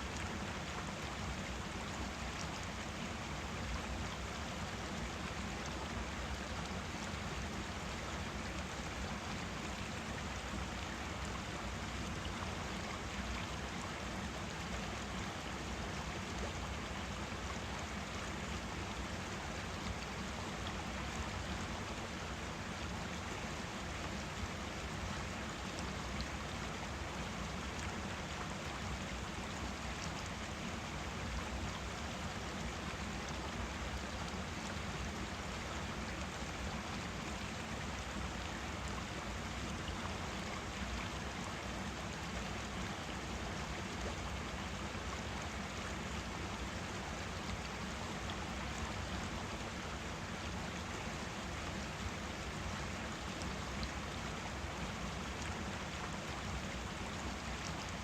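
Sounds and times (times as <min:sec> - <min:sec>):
forest stream flowing: 0:00.0 - 0:58.0.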